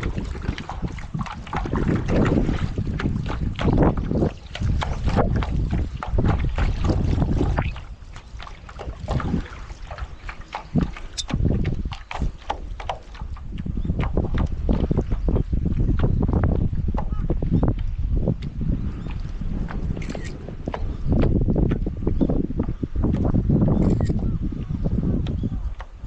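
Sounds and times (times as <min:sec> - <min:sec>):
water splashing from paddling: 0:00.0 - 0:23.5
wind buffeting microphone: 0:00.0 - 0:26.0.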